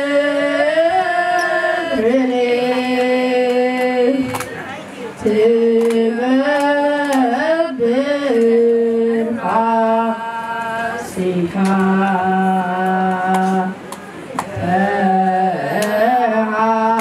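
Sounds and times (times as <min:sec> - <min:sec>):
choir singing a hymn in unison: 0:00.0 - 0:04.4, 0:05.2 - 0:13.8, 0:14.6 - 0:17.0.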